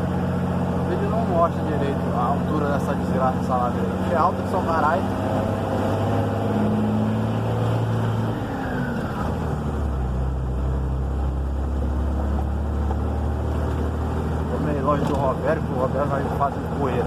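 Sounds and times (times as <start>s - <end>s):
diesel truck engine pulling uphill: 0.0s - 17.0s.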